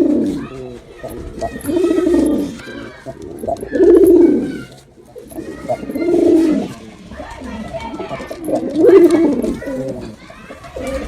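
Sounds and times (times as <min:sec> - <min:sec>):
pigeon cooing: 0:00.0 - 0:11.0.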